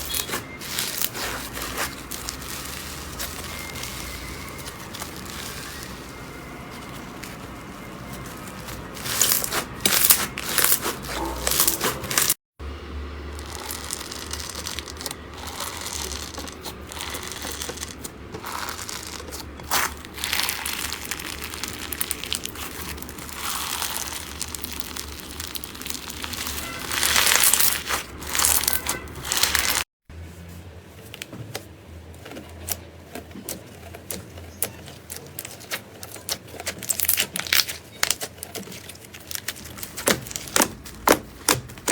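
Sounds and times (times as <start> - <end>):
slime squeezed and crackling: 0.0 - 7.4, 8.0 - 12.4, 13.3 - 29.9, 34.1 - 41.9.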